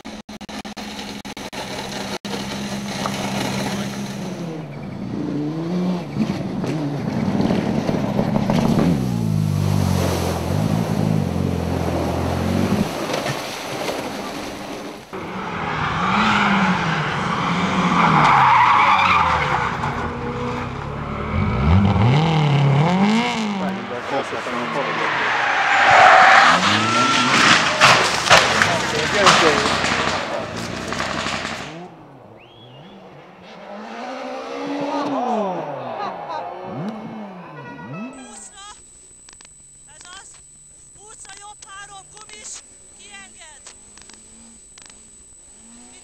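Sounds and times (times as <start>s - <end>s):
race car engines revving: 0.1s - 38.6s, 43.7s - 46.0s
tyres skidding: 0.1s - 38.8s.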